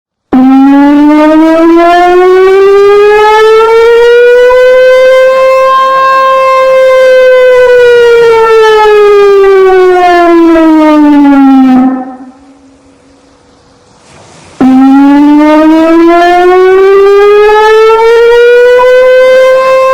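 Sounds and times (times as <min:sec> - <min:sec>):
alarm siren wailing: 0:00.3 - 0:13.8, 0:14.6 - 0:19.9.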